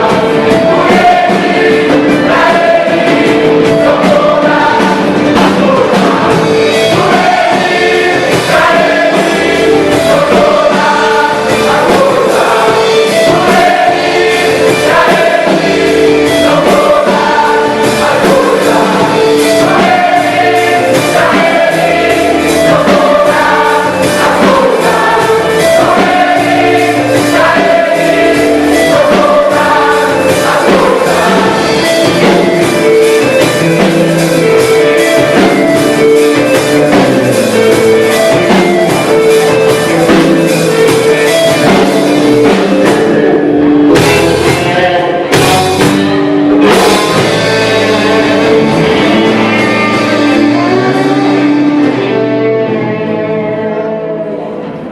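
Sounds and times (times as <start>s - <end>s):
gospel choir with band: 0.0s - 54.9s.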